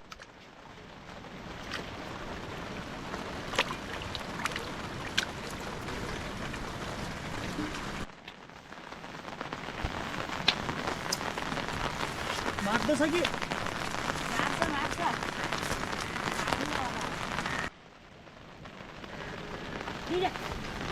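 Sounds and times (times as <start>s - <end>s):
raindrops ticking: 0.0s - 20.9s
steady rain falling: 0.0s - 20.9s.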